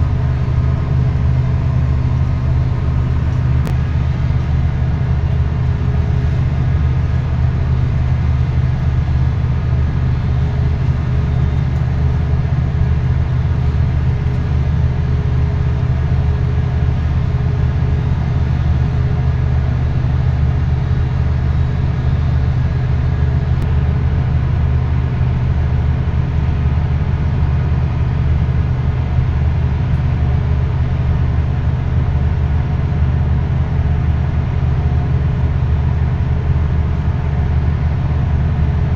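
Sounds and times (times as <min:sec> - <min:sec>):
large engine droning: 0:00.0 - 0:38.9.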